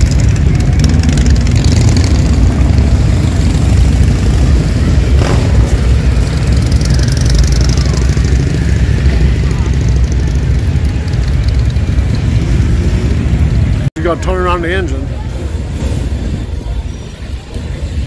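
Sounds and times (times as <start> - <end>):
engines rumbling: 0.0 - 18.0.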